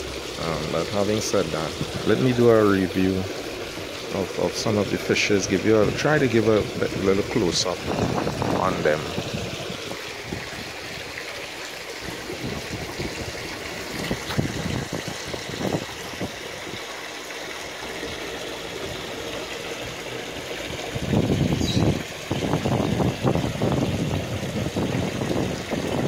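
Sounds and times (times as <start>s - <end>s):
water trickling into pond: 0.0s - 26.0s.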